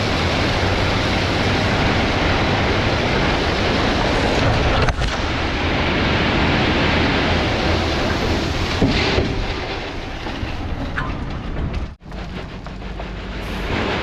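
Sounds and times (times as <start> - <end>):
dump truck rushing and rumbling: 0.0 - 14.0.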